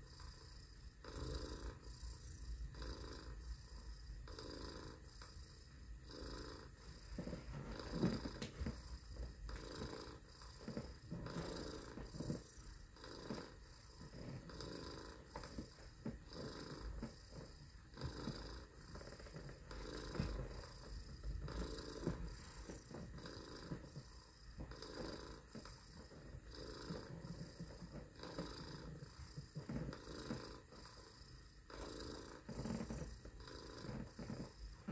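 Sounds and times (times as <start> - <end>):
person purring: 0.0 - 34.9.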